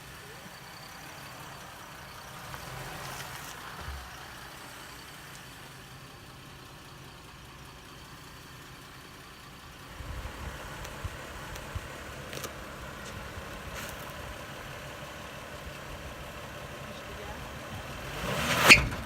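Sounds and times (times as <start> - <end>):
car engine idling: 0.0 - 19.0
heavier engine rumble: 0.0 - 19.0.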